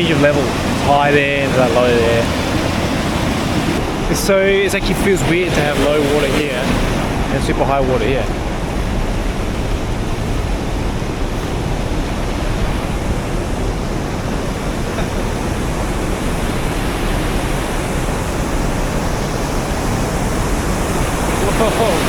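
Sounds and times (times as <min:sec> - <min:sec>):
floodwater rushing over a drop: 0:00.0 - 0:22.0.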